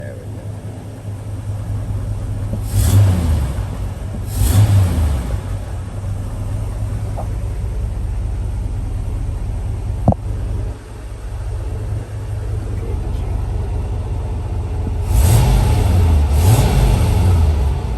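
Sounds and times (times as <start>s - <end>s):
truck engine revving and idling: 0.0s - 17.9s.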